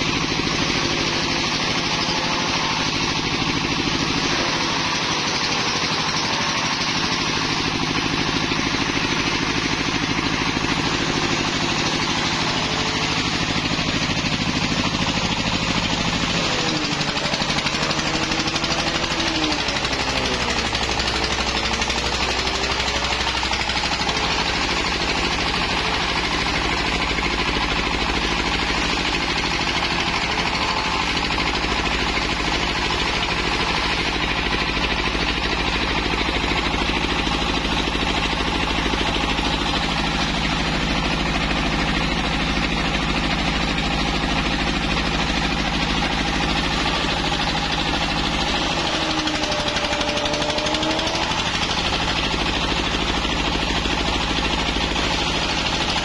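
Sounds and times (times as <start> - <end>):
diesel engine running hard: 0.0 - 56.0
grass chopper clattering: 0.0 - 56.0.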